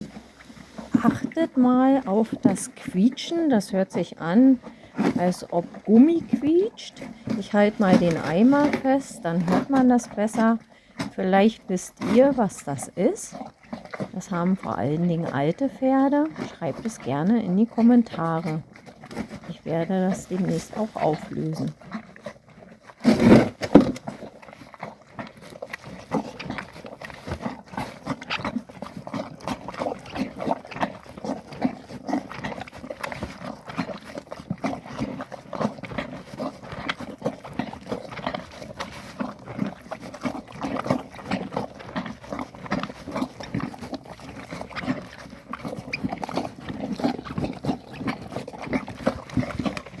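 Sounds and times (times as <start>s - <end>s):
horse chewing with squeaks: 0.0s - 50.0s.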